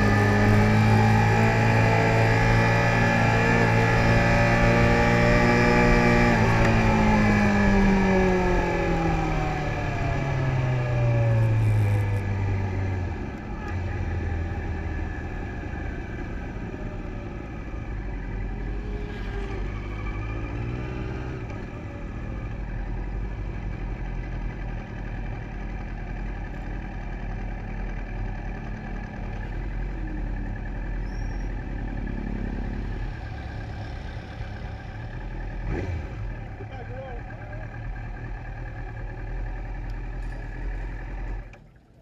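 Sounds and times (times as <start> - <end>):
motorcycle engine drone: 0.0 - 42.0.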